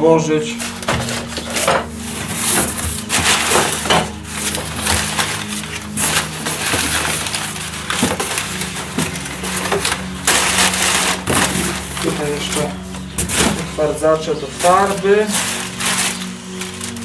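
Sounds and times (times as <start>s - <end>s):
packaging crinkling and rustling: 0.4s - 17.0s.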